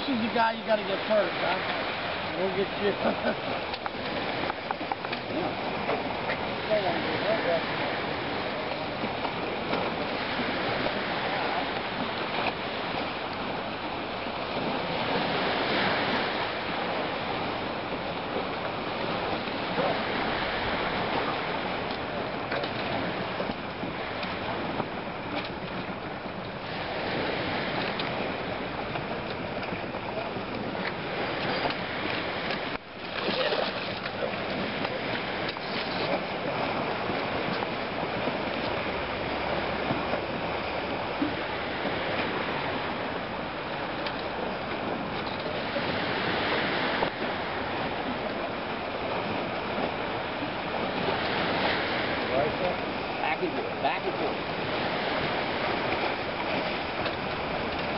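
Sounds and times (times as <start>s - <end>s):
lake water against wall: 0.0s - 57.9s
small waves lapping: 0.0s - 57.9s
wind blowing across microphone: 0.0s - 57.9s.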